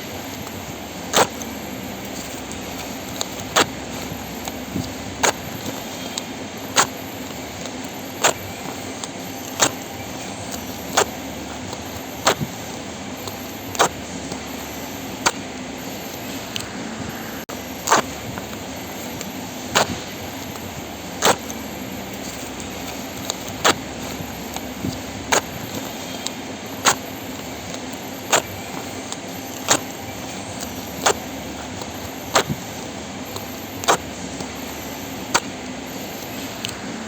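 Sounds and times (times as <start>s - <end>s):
labels ripping: 0.0s - 37.0s
steady low hum: 0.0s - 37.0s.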